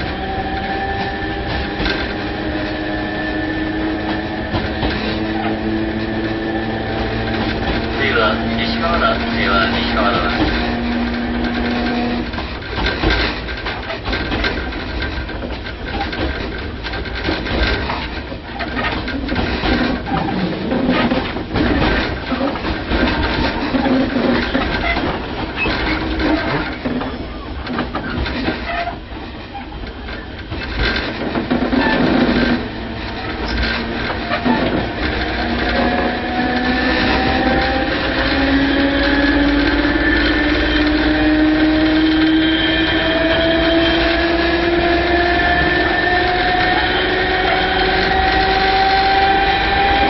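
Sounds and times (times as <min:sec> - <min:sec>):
traction motor hum: 0:00.0 - 0:50.0
wheels knocking over rail joints: 0:00.0 - 0:50.0.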